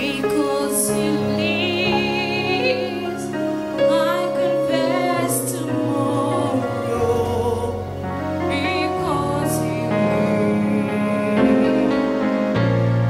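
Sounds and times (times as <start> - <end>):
woman singing gospel song: 0.0 - 11.6
sustained instrumental chords: 0.0 - 13.0.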